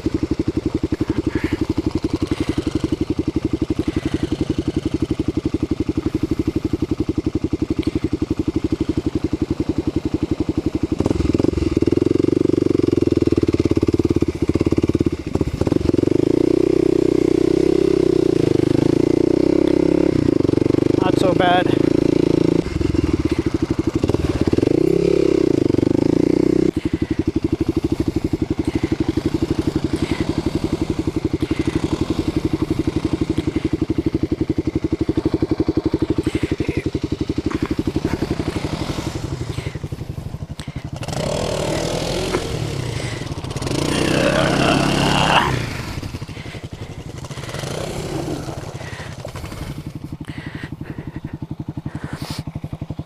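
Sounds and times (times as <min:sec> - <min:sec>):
motorcycle engine revving and chugging: 0:00.0 - 0:53.0.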